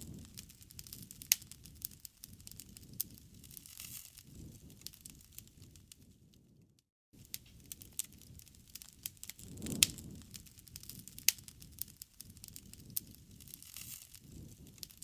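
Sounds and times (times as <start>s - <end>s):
sharp pops of fire: 0.0s - 6.6s, 7.2s - 15.0s
campfire crackling: 0.0s - 15.0s
low rumble of flame: 0.0s - 15.0s.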